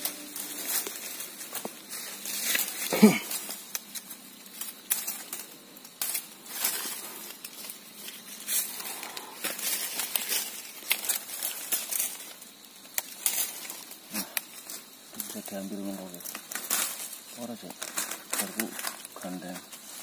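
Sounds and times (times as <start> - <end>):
leaves rustling and crackling: 0.0 - 20.0.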